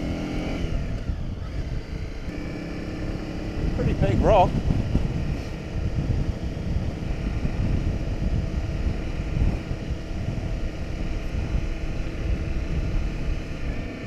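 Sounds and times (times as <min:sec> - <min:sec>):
motorcycle engine drone: 0:00.0 - 0:14.0
wind buffeting microphone: 0:00.0 - 0:14.0.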